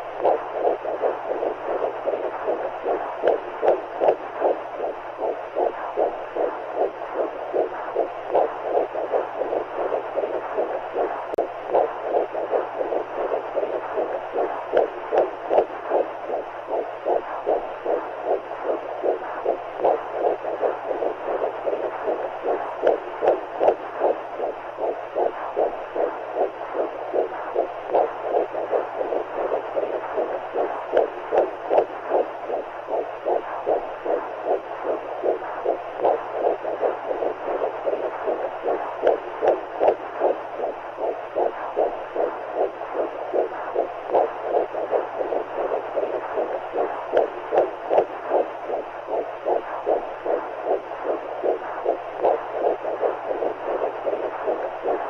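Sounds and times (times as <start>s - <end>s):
rhythmic heartbeat: 0.0s - 55.0s.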